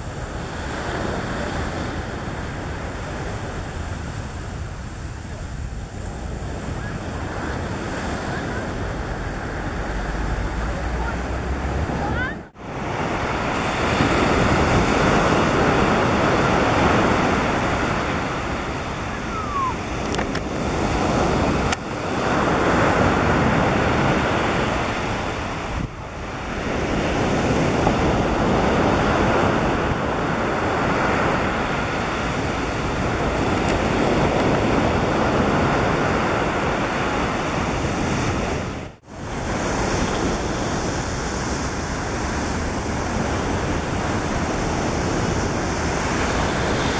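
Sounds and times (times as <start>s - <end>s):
surf breaking on beach: 0.0s - 46.9s
wind buffeting microphone: 0.0s - 46.9s.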